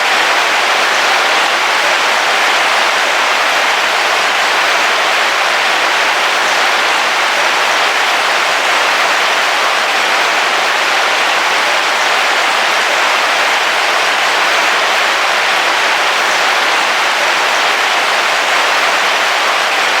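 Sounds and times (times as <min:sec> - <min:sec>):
heavy rain on a car roof: 0:00.0 - 0:20.0.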